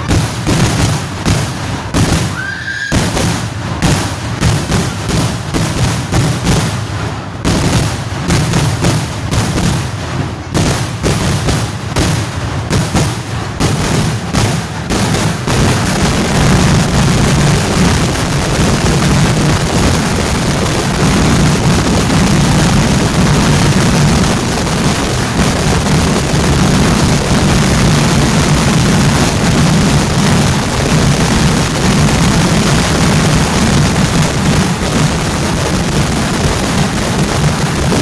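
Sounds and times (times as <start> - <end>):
firecracker bangs: 0.0 - 38.0.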